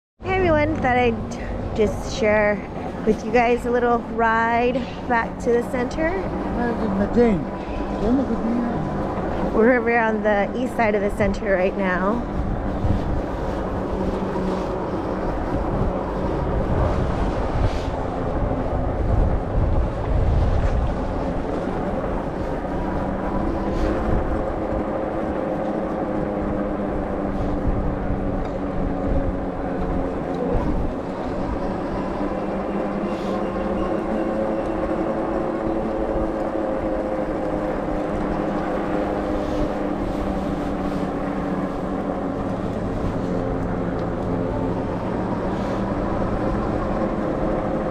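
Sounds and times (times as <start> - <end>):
wind and tyre rumble: 0.2 - 47.9
electric bike motor whine: 0.9 - 47.9.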